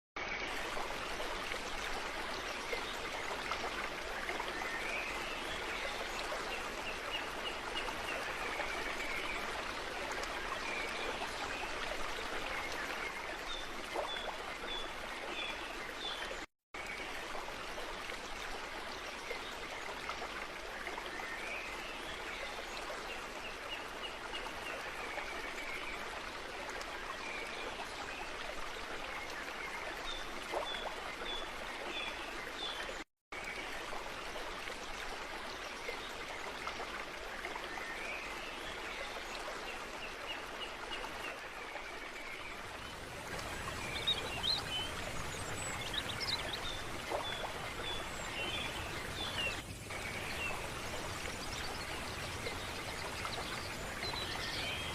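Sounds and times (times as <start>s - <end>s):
stream water flowing: 0.2s - 54.9s.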